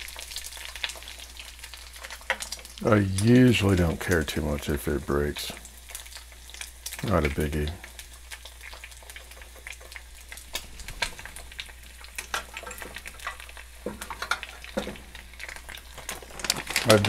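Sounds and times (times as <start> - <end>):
eggs sizzling in a pan: 0.0 - 17.0.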